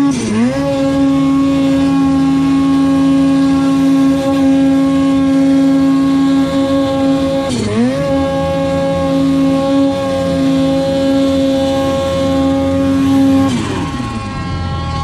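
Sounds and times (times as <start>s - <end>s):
snowmobile engine at high revs: 0.0s - 15.0s.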